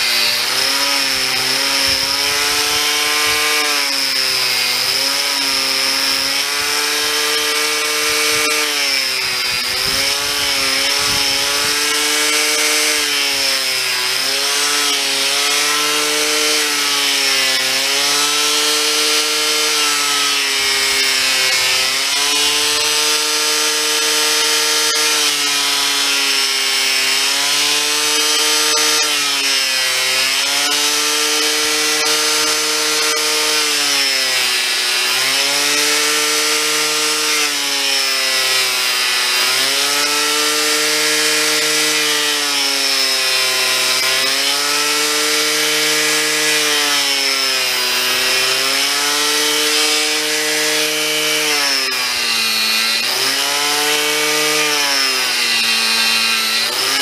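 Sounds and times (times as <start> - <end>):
angle grinder cutting wood: 0.0 - 57.0.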